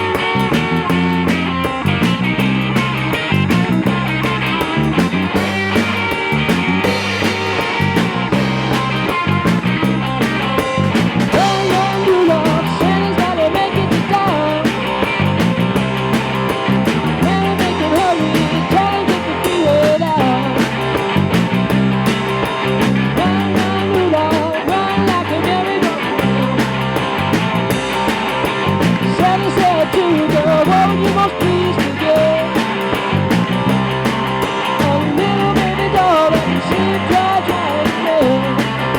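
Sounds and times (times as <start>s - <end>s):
bending guitar melody: 0.0s - 38.9s
repeating bass line: 0.0s - 38.9s
rock band playing: 0.0s - 38.9s.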